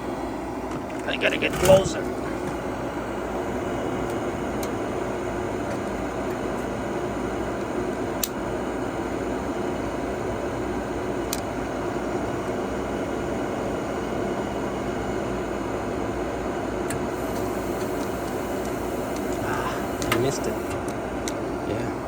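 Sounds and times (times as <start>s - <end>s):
furnace fan hum and air rush: 0.0s - 22.0s.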